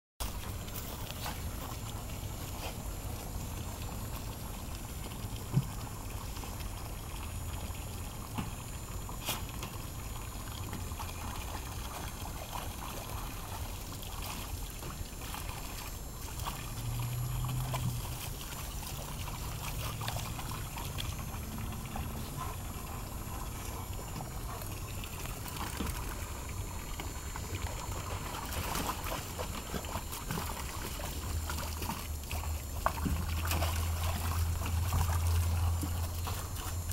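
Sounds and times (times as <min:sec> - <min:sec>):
dogs splashing in water: 0:00.2 - 0:36.9
hose water splashing into pool: 0:00.2 - 0:36.9.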